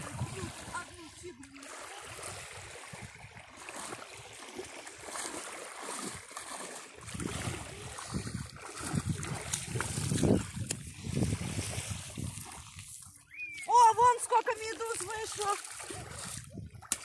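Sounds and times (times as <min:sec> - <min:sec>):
sea water splashing: 0:00.0 - 0:17.0.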